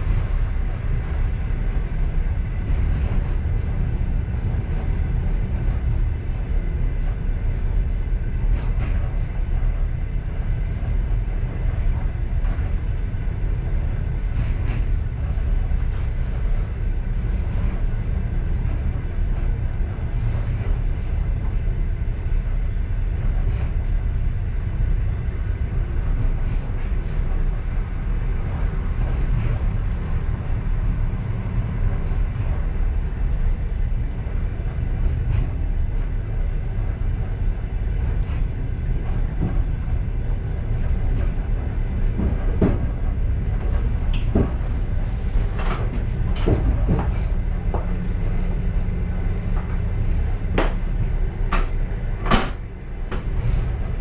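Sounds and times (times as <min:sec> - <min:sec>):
train car rumbling on rails: 0:00.0 - 0:54.0.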